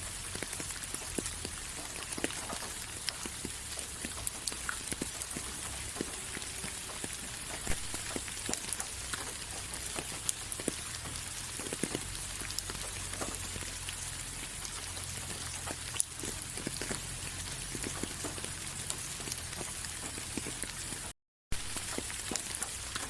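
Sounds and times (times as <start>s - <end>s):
rain drops pattering: 0.0s - 23.0s.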